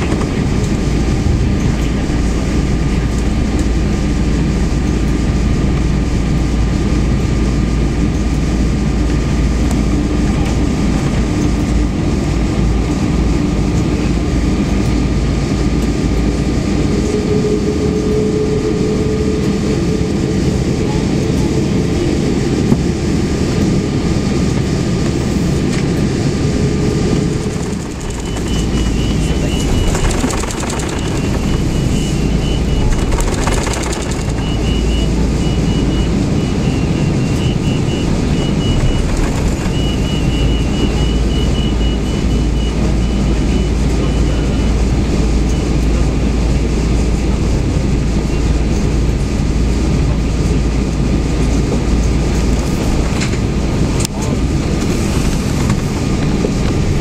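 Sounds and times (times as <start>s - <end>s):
deep low hum: 0.0s - 50.7s
airplane engines roaring: 0.0s - 57.0s.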